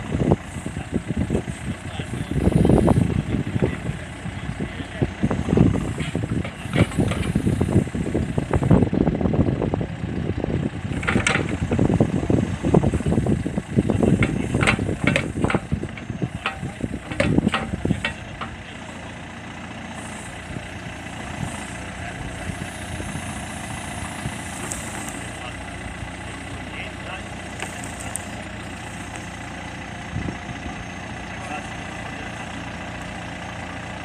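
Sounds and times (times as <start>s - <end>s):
diesel engine working hard: 0.0s - 34.0s.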